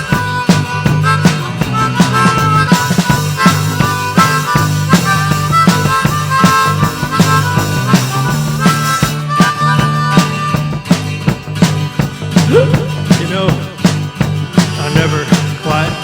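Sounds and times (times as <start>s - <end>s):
harmonica melody: 0.0s - 13.8s, 14.5s - 16.0s
bass line: 0.0s - 16.0s
steady drum beat: 0.0s - 16.0s.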